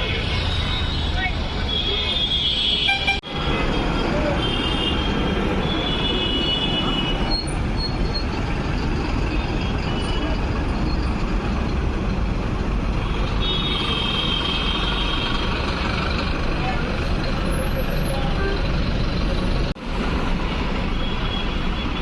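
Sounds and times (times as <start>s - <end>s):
busy road traffic: 0.0s - 22.0s.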